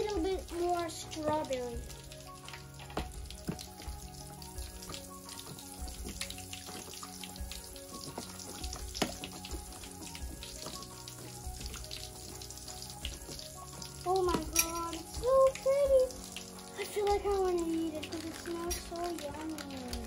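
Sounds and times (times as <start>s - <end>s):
background music: 0.0s - 20.0s
water sloshing: 0.0s - 20.0s.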